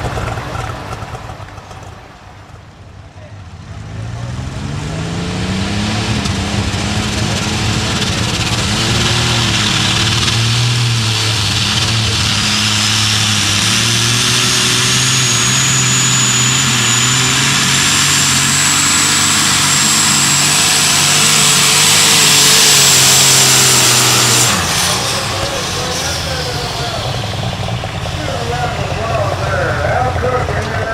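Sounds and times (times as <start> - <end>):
tractor engine under full load: 0.0 - 30.9
high turbo whine: 3.4 - 30.9.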